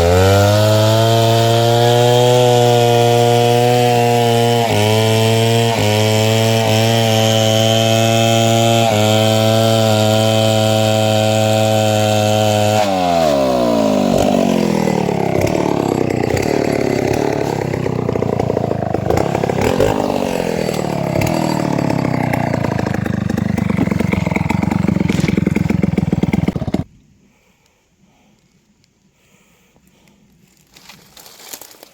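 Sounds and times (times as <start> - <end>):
chainsaw cutting timber: 0.0 - 26.9.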